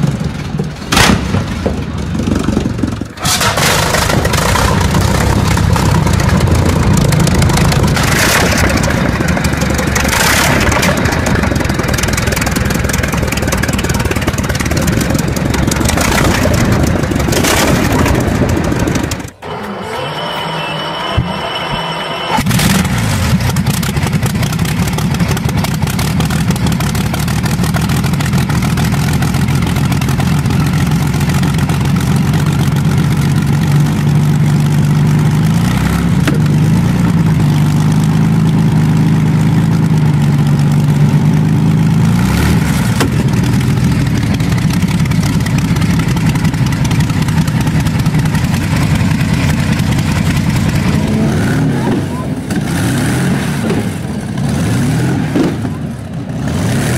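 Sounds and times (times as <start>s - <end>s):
engine idling deeply: 0.0s - 19.5s, 22.4s - 53.0s.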